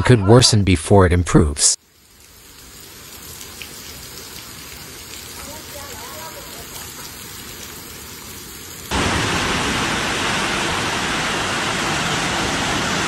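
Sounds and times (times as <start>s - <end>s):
heavy rain hissing: 1.8s - 13.0s
running floodwater: 1.8s - 13.0s.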